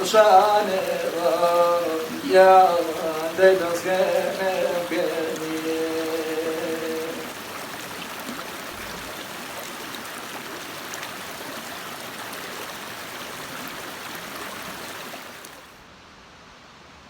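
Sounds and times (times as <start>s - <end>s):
stream water running: 0.0s - 15.9s.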